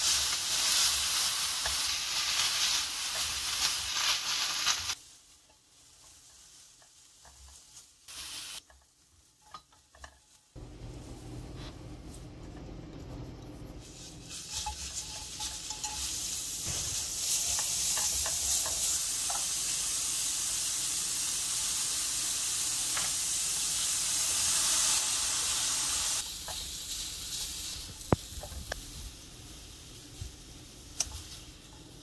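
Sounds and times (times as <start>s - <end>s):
vegetables sizzling in oil: 0.0s - 11.6s, 13.7s - 32.0s.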